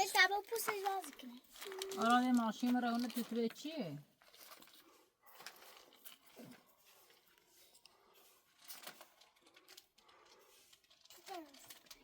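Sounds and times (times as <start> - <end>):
faint handling rustling: 0.5 - 12.0.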